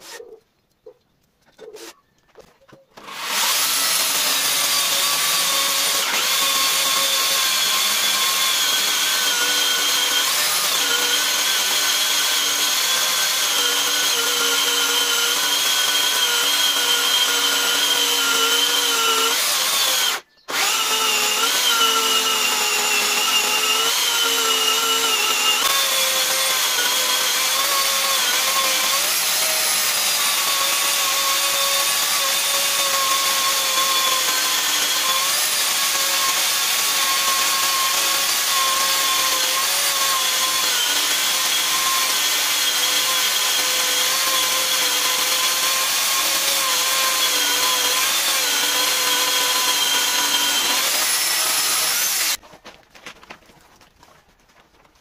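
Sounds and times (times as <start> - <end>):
electric chainsaw cutting log: 3.0 - 52.4.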